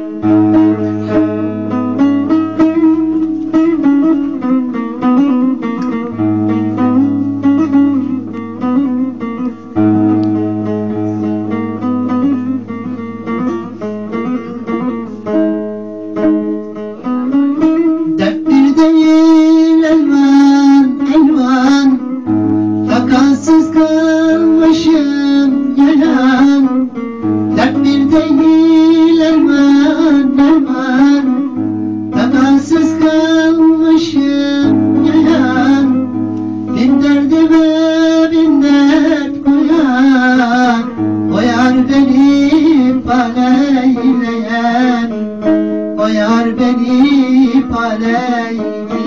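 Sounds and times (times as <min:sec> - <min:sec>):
man singing with vibrato: 0:00.0 - 0:49.0
plucked lute folk melody: 0:00.0 - 0:49.0.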